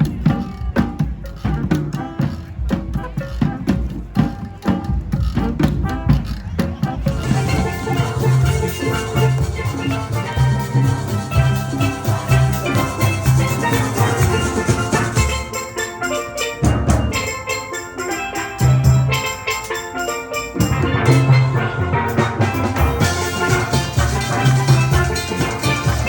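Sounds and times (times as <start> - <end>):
bass line: 0.0 - 15.6, 18.6 - 19.3, 20.5 - 26.0
drums beating: 0.0 - 26.0
street band playing: 0.0 - 26.0.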